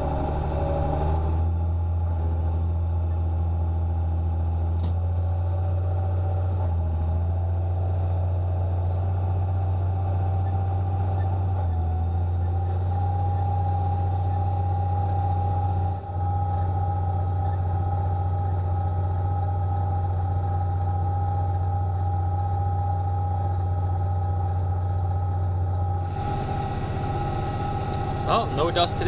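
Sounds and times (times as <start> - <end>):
steady engine whine: 0.0 - 29.0
tractor engine droning: 0.0 - 29.0.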